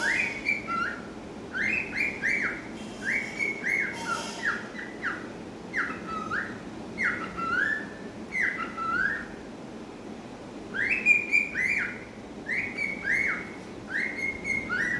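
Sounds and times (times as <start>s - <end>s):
cockatiel whistling a tune: 0.0s - 9.4s, 10.7s - 14.9s.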